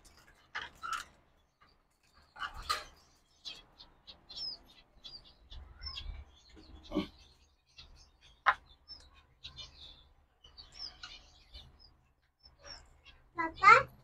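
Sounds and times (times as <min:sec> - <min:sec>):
finches chirping: 0:00.0 - 0:14.0.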